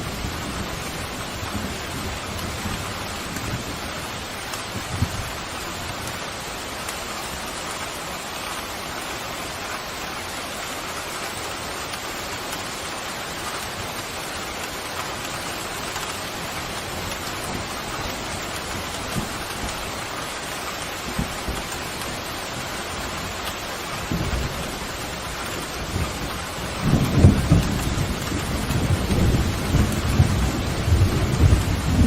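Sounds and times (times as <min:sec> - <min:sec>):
pouring rain: 0:00.0 - 0:32.0.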